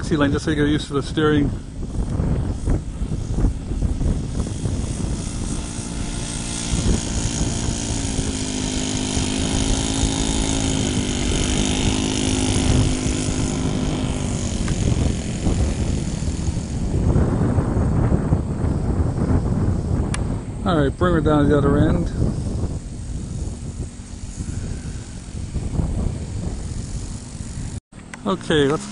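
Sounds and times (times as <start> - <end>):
model plane engine and propeller: 0.0 - 28.9.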